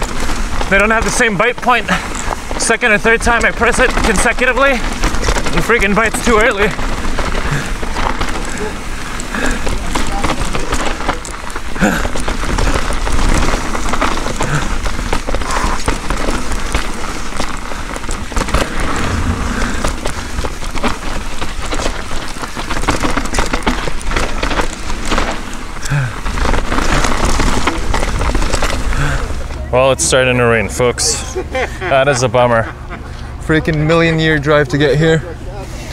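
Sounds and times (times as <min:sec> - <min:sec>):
bike rattling clicks and knocks: 0:00.0 - 0:30.2
rushing noise with low rumble: 0:00.0 - 0:30.6.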